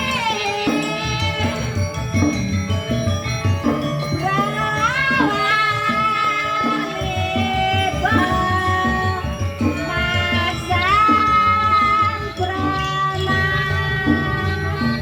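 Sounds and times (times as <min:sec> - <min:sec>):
high voice singing: 0:00.0 - 0:02.5, 0:04.2 - 0:15.0
low pulsing drum beat: 0:00.0 - 0:15.0.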